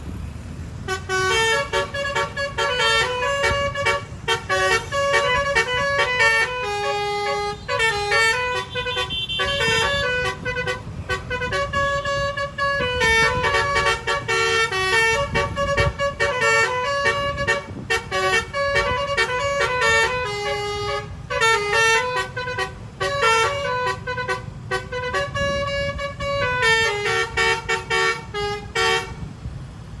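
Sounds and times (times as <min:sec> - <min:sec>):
multi-trumpet air horn melody: 0:00.8 - 0:29.3.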